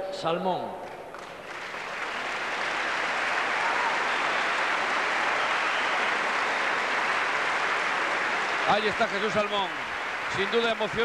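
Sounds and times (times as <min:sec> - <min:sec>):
crowd applauding: 0:00.8 - 0:11.0.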